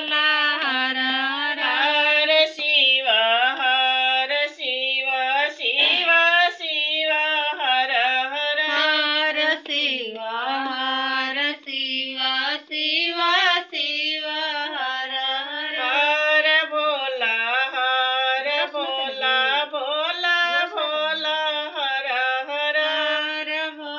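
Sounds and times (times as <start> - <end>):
woman singing into a microphone: 0.0 - 23.9.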